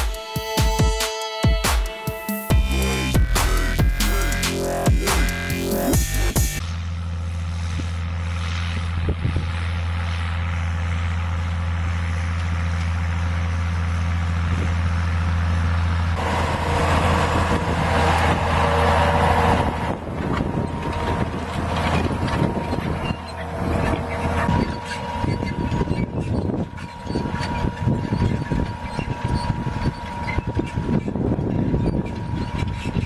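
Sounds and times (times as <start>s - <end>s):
tractor diesel engine droning: 2.5s - 33.0s.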